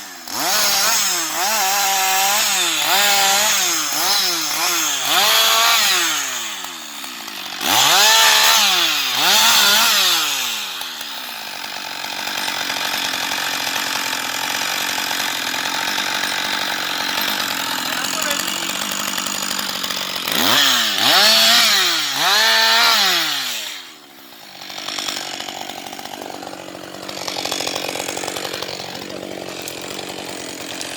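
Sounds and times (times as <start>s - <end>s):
chainsaw revving and idling: 0.0s - 30.9s.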